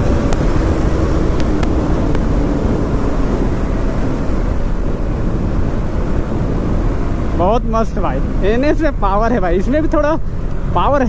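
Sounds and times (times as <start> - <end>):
motorcycle engine at speed: 0.0 - 9.2
wind rush on microphone: 0.0 - 11.0.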